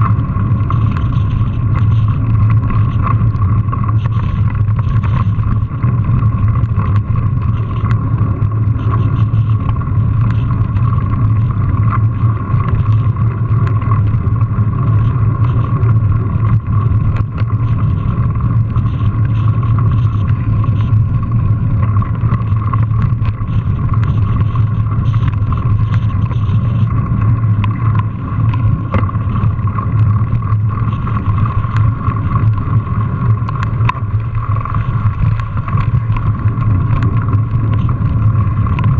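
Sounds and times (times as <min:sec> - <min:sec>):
bike rattles and clicks: 0:00.0 - 0:38.9
wind and tyre rumble: 0:00.0 - 0:38.9.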